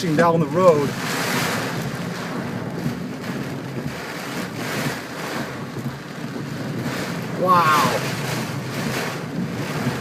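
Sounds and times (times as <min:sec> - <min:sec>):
engine and tyres droning: 0:00.0 - 0:10.0
rain and water spray on vehicle: 0:00.0 - 0:10.0.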